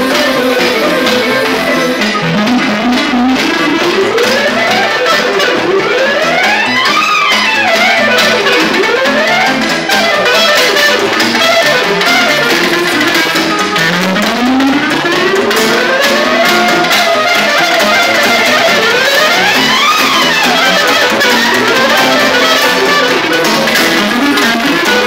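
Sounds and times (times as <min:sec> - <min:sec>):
band accompaniment: 0:00.0 - 0:25.0
electronic keyboard melody: 0:00.0 - 0:25.0.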